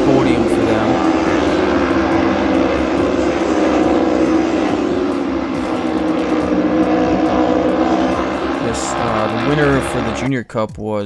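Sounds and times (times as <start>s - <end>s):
motorcycles at high revs: 0.0s - 10.3s.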